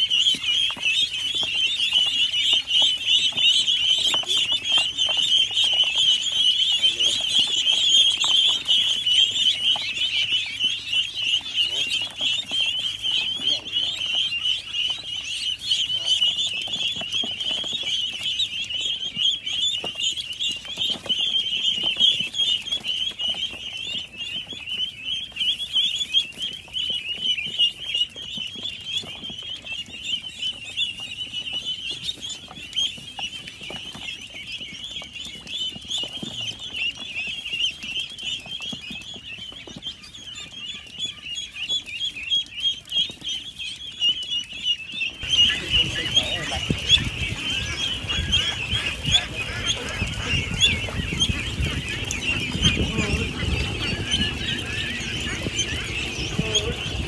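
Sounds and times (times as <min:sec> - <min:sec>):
ducklings peeping: 0:00.0 - 0:57.0.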